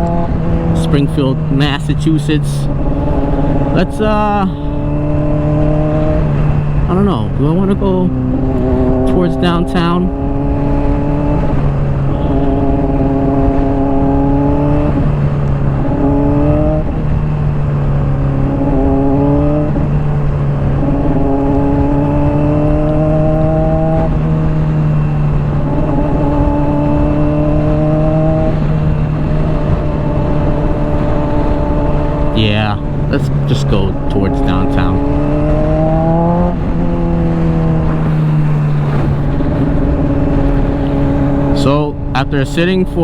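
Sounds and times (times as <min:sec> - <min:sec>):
motorcycle engine revving: 0:00.0 - 0:43.0
wind and road noise: 0:00.0 - 0:43.0.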